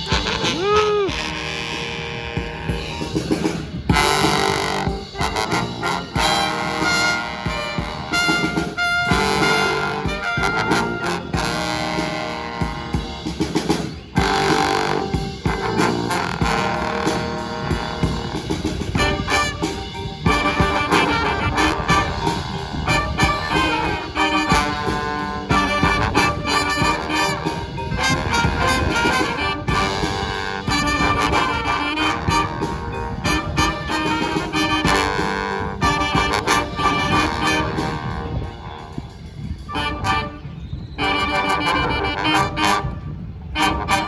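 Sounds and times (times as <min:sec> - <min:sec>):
steady drum beat: 0:00.0 - 0:40.4, 0:41.0 - 0:42.8
trumpets and trombones in harmony: 0:00.0 - 0:44.0.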